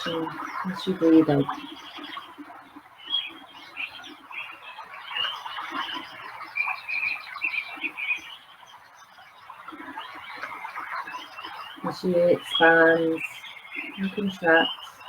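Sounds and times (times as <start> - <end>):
birds chirping and trilling: 0.0 - 15.0.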